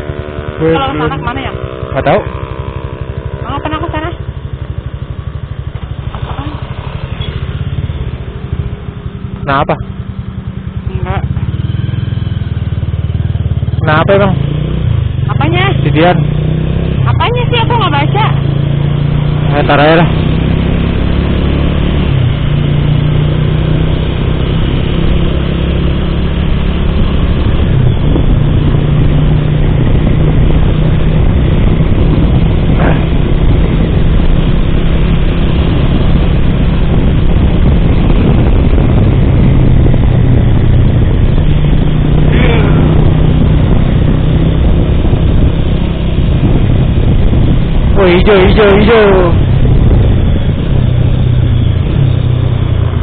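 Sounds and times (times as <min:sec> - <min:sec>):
motorcycle engine running: 0:00.0 - 0:53.0
wind and road noise: 0:00.0 - 0:53.0.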